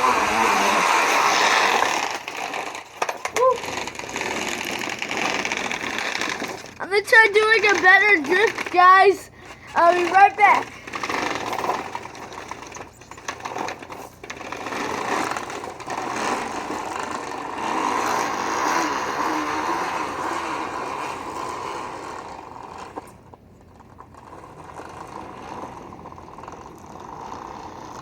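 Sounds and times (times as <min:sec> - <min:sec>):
rapid mechanical whirring of bike: 0:00.0 - 0:28.0.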